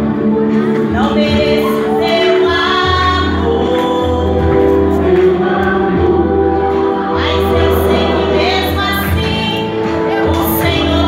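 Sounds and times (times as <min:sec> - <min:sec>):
woman singing through microphone: 0:00.0 - 0:11.0
voices singing along: 0:01.0 - 0:11.0.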